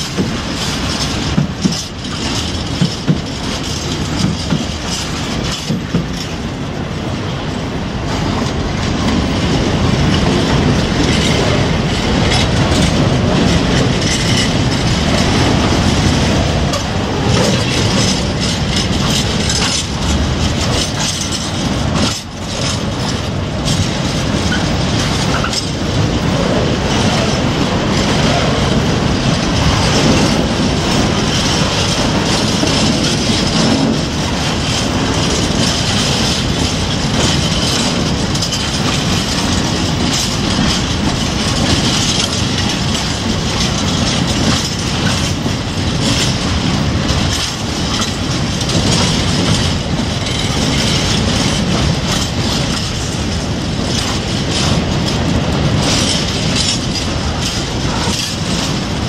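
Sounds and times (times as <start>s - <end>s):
train wheels rumbling on rail: 0.0s - 59.0s
wheels clattering over rail joints: 0.0s - 59.0s.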